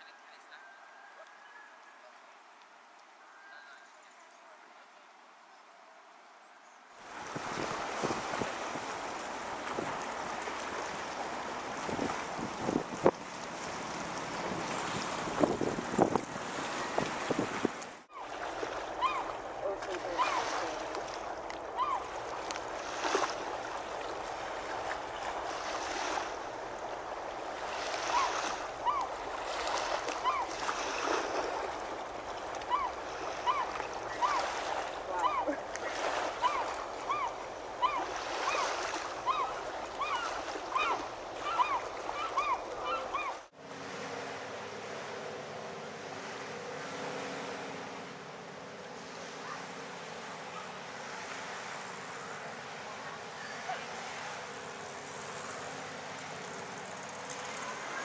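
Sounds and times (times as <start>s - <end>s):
wind: 0.0s - 58.0s
seawater lapping around rocks: 6.9s - 58.0s
water wash: 7.0s - 58.0s.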